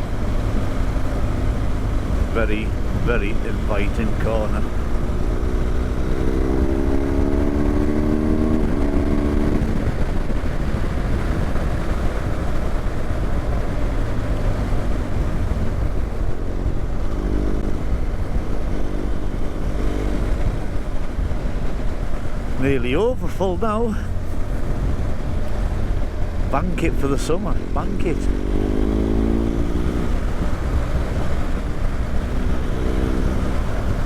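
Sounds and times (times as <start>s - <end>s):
motorcycle engine accelerating: 0.0s - 34.0s
wind rumble: 0.0s - 34.0s.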